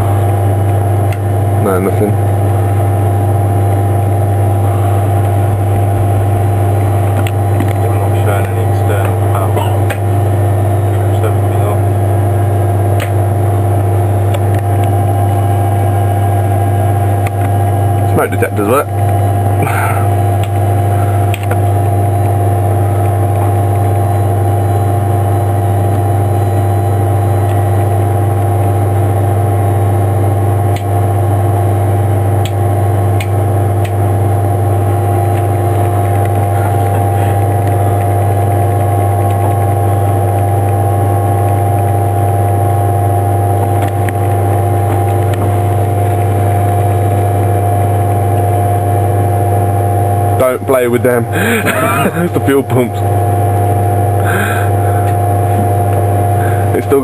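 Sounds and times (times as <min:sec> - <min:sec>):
electrical equipment humming: 0:00.0 - 0:57.0.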